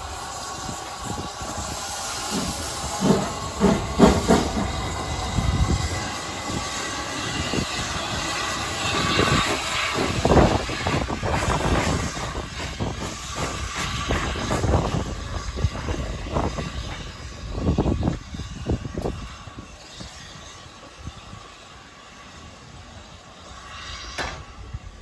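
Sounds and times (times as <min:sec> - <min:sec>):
wind buffeting microphone: 0:00.0 - 0:21.5, 0:24.3 - 0:25.0
hiss of steam: 0:00.0 - 0:25.0
steam train running: 0:00.0 - 0:25.0.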